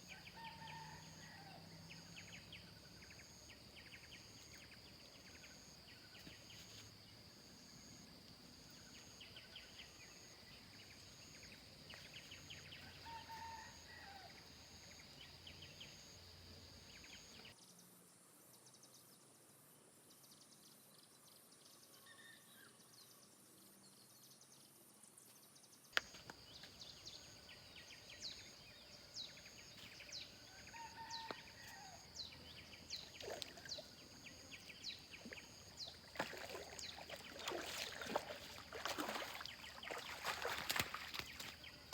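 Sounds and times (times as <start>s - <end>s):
insect drone: 0.0s - 23.3s, 23.9s - 41.9s.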